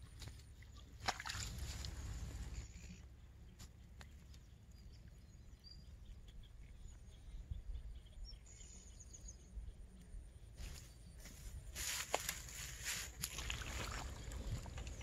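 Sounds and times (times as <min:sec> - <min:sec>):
low steady rumble: 0:00.0 - 0:15.0
small birds chirping: 0:01.7 - 0:15.0.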